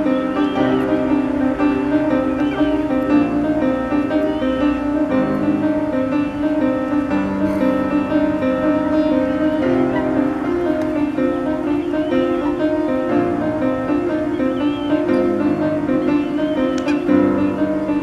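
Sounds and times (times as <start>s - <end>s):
slow instrumental music with piano: 0.0s - 18.0s.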